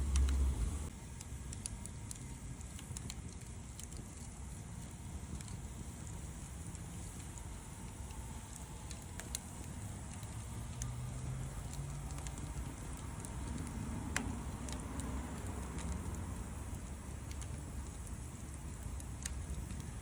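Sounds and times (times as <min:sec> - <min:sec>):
bonfire rumble: 0:00.0 - 0:20.0
fire crackling pops: 0:00.0 - 0:20.0.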